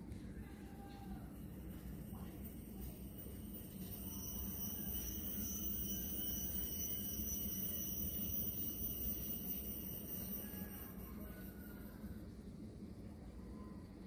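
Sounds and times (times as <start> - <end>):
faint high-pitched tones: 0.0 - 14.0.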